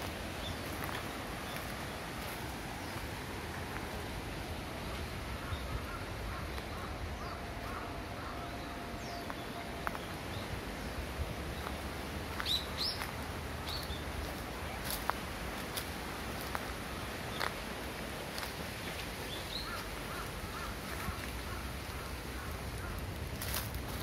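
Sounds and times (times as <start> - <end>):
steady background hiss: 0.0 - 24.0
wild birds chirping: 0.0 - 24.0.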